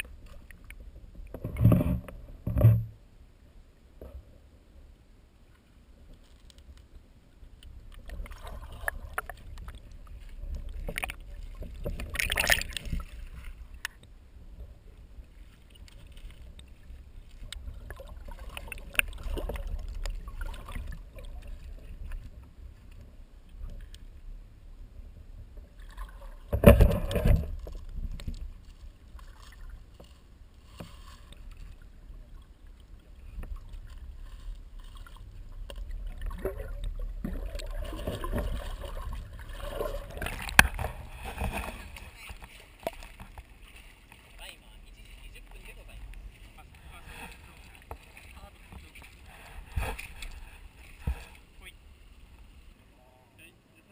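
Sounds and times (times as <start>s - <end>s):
water splashing: 7.6s - 24.2s, 25.6s - 52.9s.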